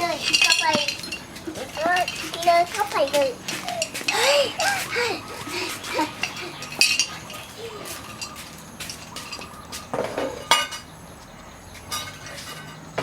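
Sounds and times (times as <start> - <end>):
light clinks and knocks: 0.0 - 13.0.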